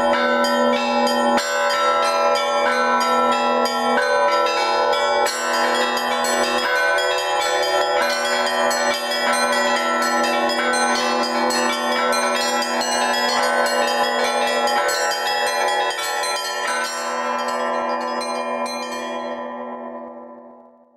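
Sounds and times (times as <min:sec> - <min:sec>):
large bells ringing: 0:00.0 - 0:20.8.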